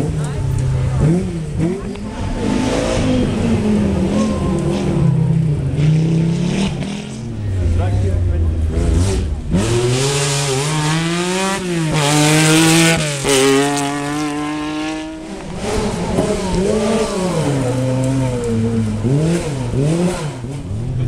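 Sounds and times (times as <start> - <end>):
rally car engine at full throttle: 0.0 - 21.0
rally car passing by: 0.0 - 21.0.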